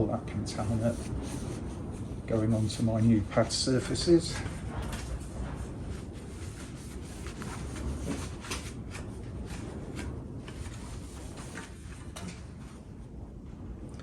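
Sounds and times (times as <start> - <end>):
rubbing noises: 0.0 - 12.9
low background hum: 0.0 - 14.0.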